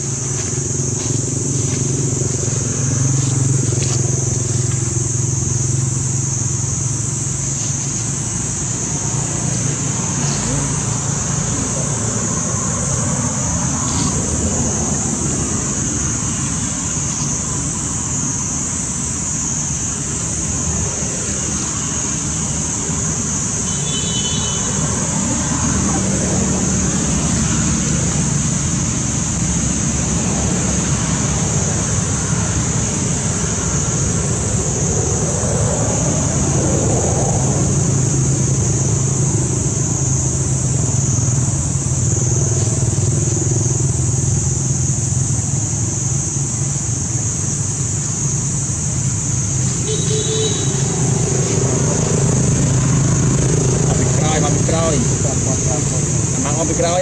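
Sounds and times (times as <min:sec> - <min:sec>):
distant traffic rumble: 0:00.0 - 0:57.0.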